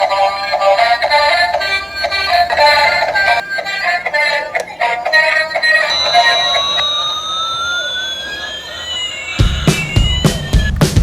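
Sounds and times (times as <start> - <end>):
tinny electronic music: 0.0 - 11.0.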